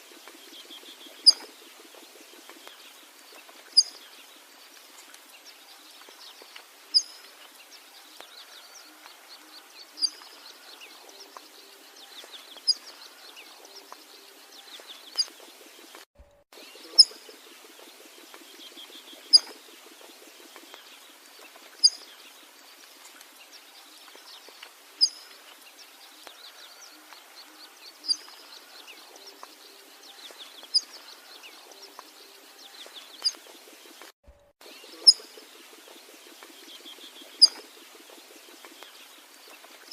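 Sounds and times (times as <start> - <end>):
chorus of trilling bird chirps: 0.0 - 39.9.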